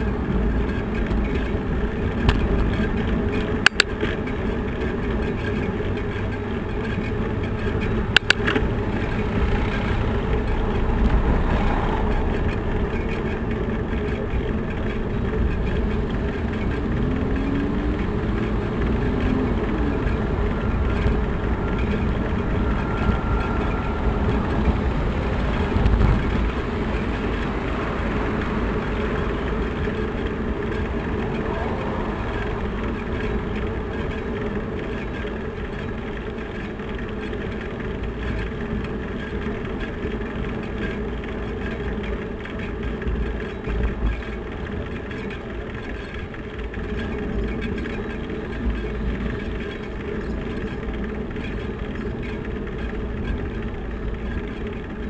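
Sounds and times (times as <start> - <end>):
road and traffic rumble: 0.0 - 55.0.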